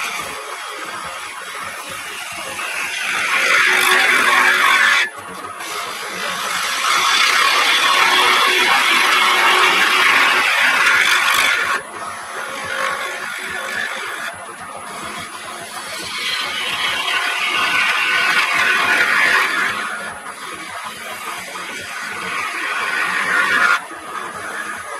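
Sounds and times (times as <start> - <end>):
lathe gouge scraping wood: 0.0 - 24.9.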